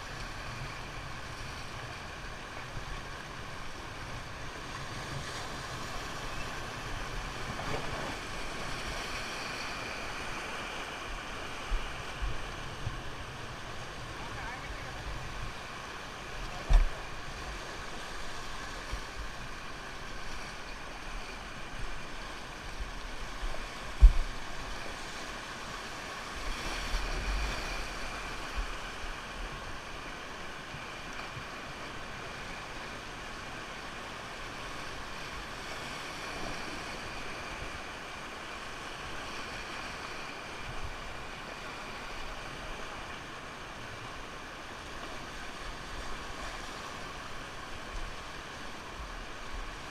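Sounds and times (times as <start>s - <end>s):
river rapids rushing: 5.4s - 49.9s.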